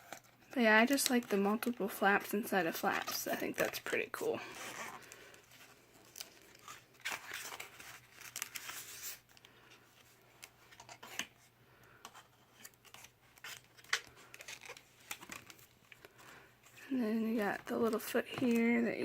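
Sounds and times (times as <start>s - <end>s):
book pages and flaps rustling: 0.0s - 19.0s.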